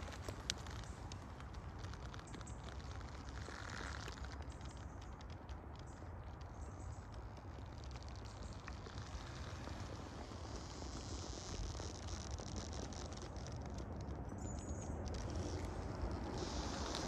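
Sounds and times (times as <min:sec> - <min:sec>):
faint ticks: 0:00.0 - 0:17.0.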